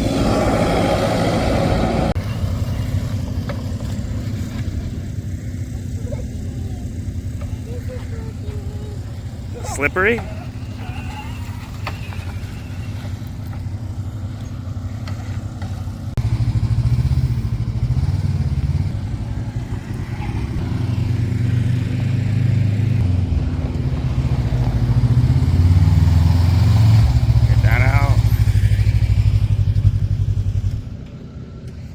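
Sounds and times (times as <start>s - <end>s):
off-road vehicle rumbling: 0.0s - 31.9s.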